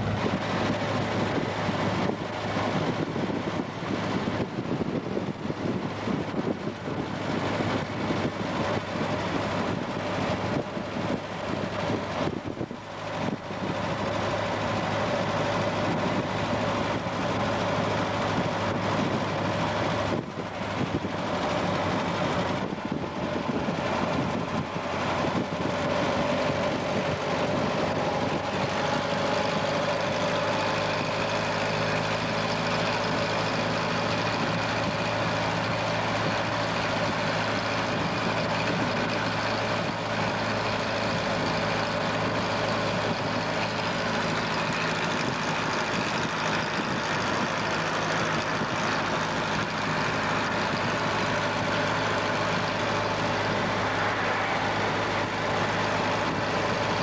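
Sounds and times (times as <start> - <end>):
car engine and road drone: 0.0 - 57.0
wind noise: 0.0 - 57.0.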